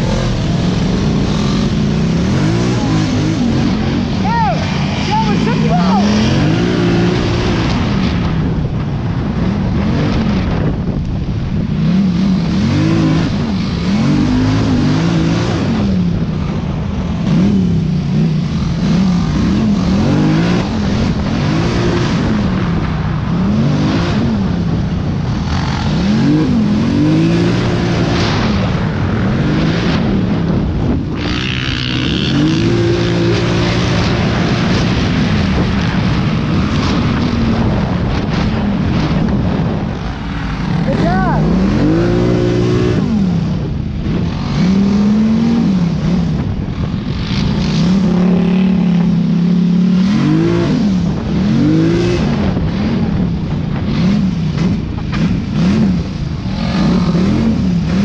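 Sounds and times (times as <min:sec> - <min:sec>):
atv engine revving: 0:00.0 - 0:58.0
wind rushing over microphone: 0:00.0 - 0:58.0.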